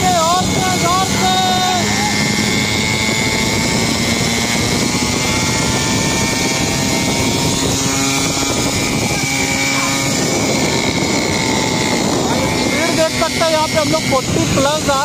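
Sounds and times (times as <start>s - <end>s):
small motorbike engine droning: 0.0s - 15.0s
wind on microphone: 0.0s - 15.0s.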